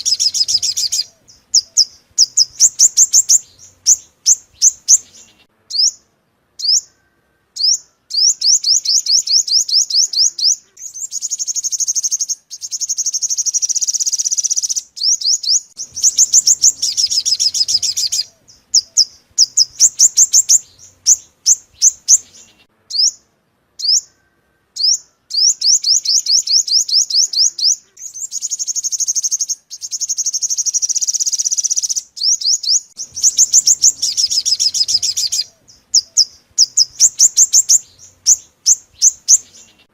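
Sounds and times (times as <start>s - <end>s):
bird trills and chirps: 0.0s - 39.9s.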